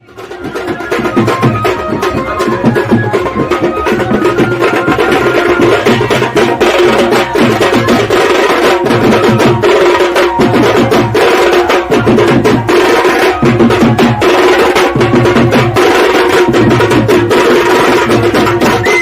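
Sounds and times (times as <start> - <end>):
sharp wood-block percussion: 0.0 - 19.0.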